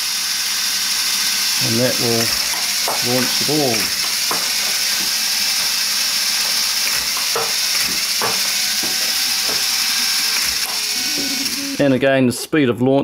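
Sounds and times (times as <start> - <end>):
motors whirring: 0.0 - 12.0.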